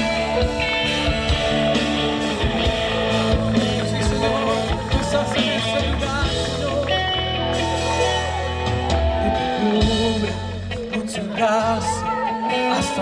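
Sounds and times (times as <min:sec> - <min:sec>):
guitar: 0:00.0 - 0:13.0
person singing: 0:00.0 - 0:13.0
worship band playing: 0:00.0 - 0:13.0.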